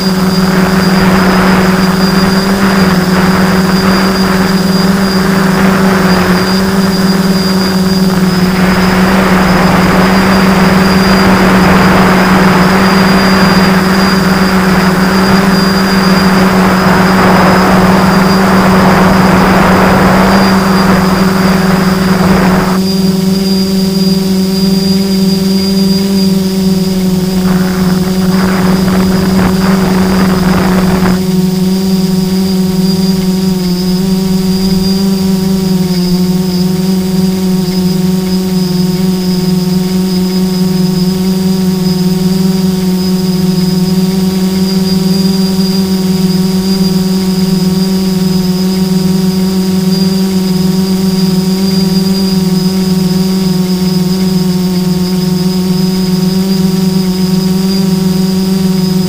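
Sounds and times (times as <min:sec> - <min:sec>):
air rushing over microphone: 0:00.0 - 0:59.0
drone motors whining: 0:00.0 - 0:59.0.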